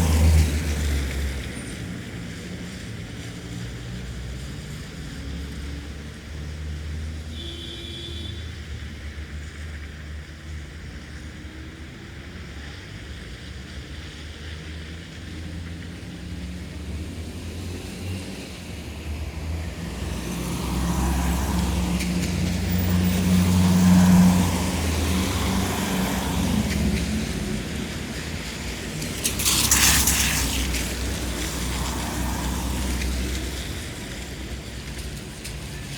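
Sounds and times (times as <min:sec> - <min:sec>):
tyres hissing on wet road: 0:00.0 - 0:35.9.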